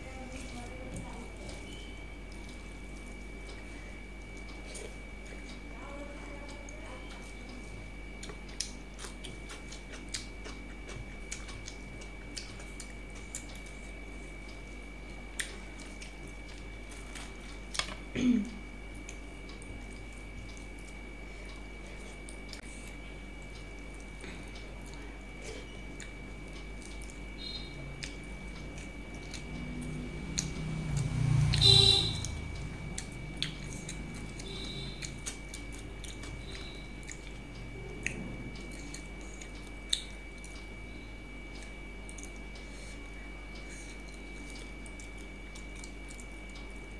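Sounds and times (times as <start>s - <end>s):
quiet chewing: 0.1s - 31.2s, 32.1s - 46.9s.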